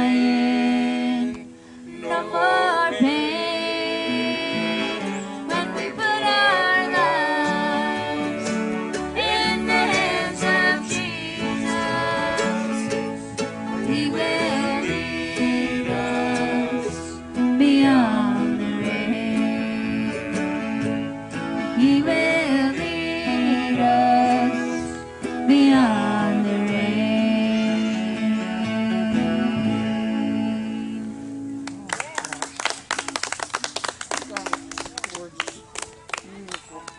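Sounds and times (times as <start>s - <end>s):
person singing country song: 0.0s - 31.6s
acoustic guitar: 0.0s - 35.8s.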